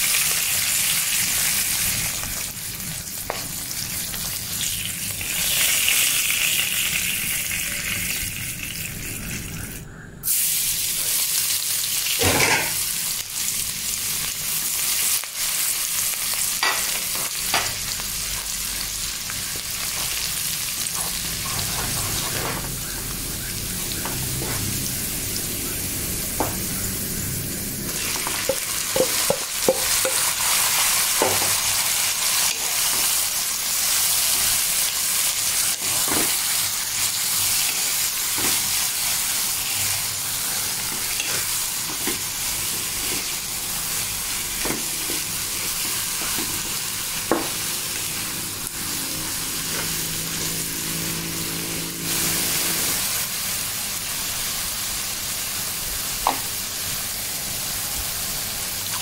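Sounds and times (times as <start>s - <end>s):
frying sizzle: 0.0s - 59.0s.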